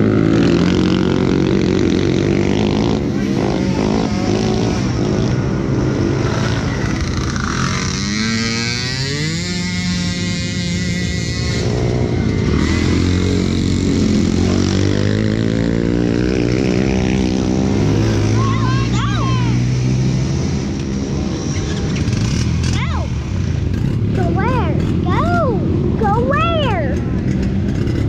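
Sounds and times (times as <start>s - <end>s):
atv engines running: 0.0s - 28.0s.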